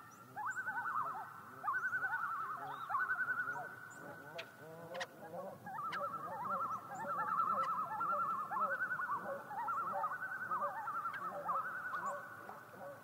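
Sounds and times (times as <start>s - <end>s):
loons calling in tremolos: 0.0s - 13.0s.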